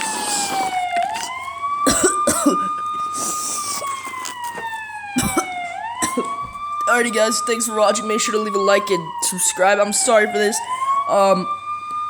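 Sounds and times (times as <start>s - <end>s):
wailing siren: 0.0s - 12.0s.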